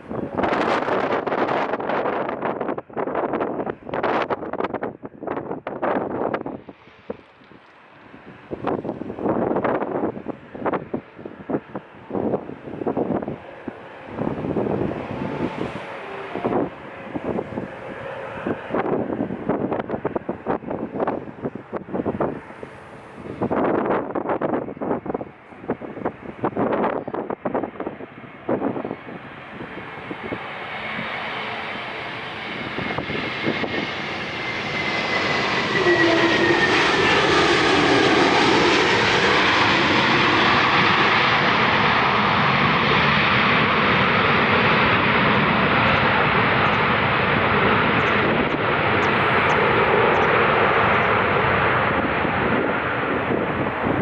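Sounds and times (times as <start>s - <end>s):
jet airliner passing: 0.0s - 54.0s
jet engine whine: 0.0s - 54.0s.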